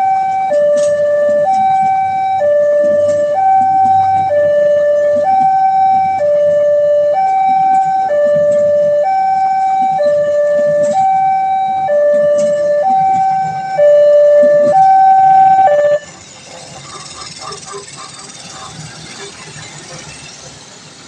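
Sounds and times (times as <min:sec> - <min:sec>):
two-tone crossing alarm siren: 0:00.0 - 0:19.6.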